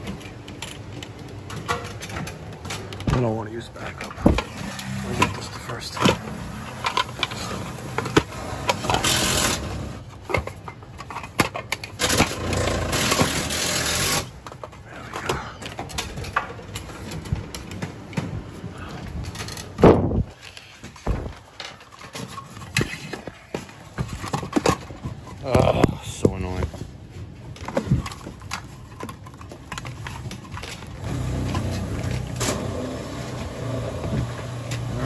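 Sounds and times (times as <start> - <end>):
wire and reel rustling and clattering: 0.0 - 35.0.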